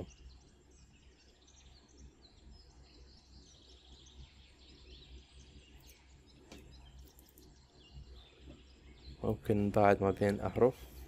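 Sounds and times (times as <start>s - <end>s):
faint high chirps: 0.0s - 11.0s
steady low hum: 0.0s - 11.0s.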